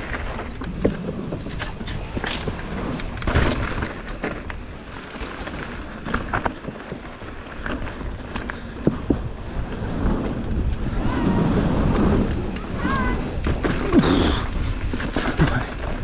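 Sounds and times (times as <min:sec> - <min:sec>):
bike rattling over rough ground: 0:00.0 - 0:16.0
wind and tyre rumble: 0:00.0 - 0:16.0.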